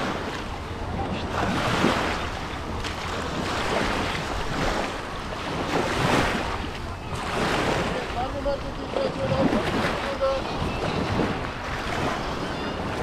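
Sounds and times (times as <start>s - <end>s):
small waves washing on beach: 0.0s - 13.0s
wind rumbling on microphone: 0.0s - 13.0s.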